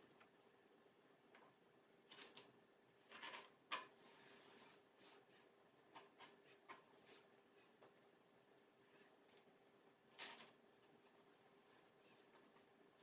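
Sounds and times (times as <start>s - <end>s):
soft hiss: 0.0s - 13.0s.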